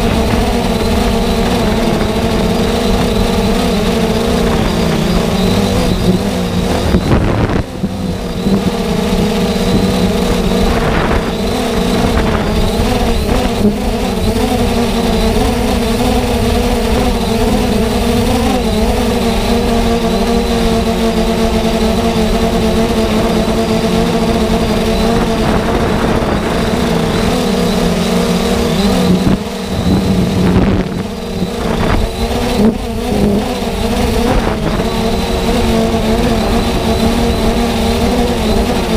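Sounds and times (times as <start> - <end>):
drone propellers humming: 0.0 - 38.9.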